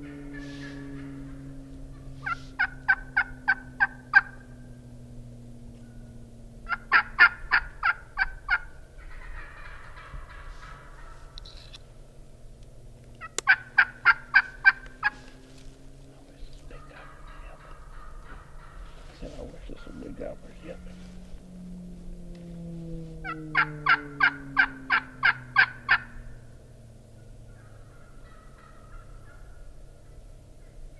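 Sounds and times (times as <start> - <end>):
turkey yelps: 0.0 - 4.7, 5.7 - 11.8, 13.2 - 15.6, 16.4 - 21.7, 23.2 - 26.4, 27.2 - 30.8
low steady hum: 0.0 - 30.9.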